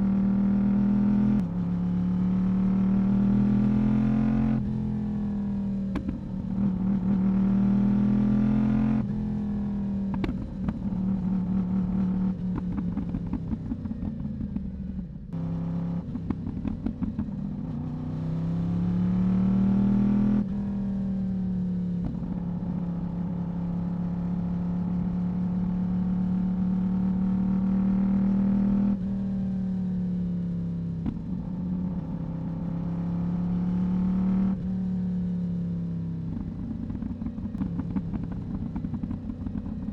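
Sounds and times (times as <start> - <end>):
motorcycle exhaust with gear changes: 0.0 - 39.9.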